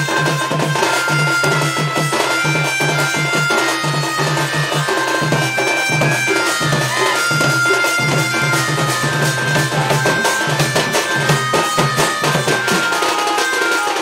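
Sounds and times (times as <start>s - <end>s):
barrel drum beaten quickly: 0.0s - 14.0s.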